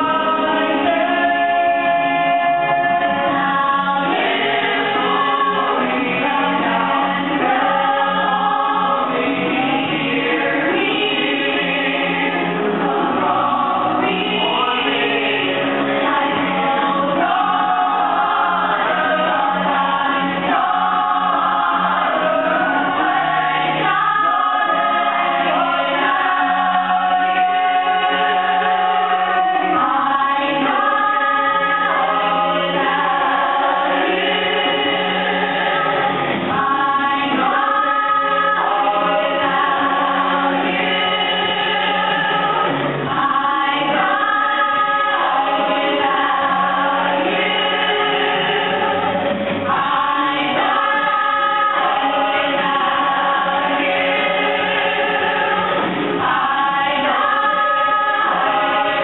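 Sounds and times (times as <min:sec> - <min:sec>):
choir singing with accompaniment: 0:00.0 - 0:59.0.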